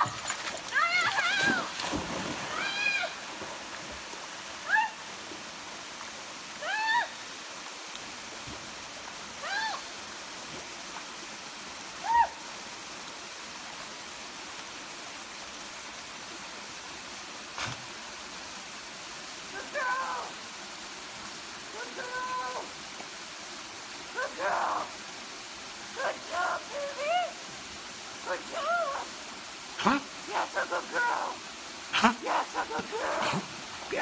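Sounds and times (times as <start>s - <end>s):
creek and small waterfall rushing: 0.0s - 34.0s.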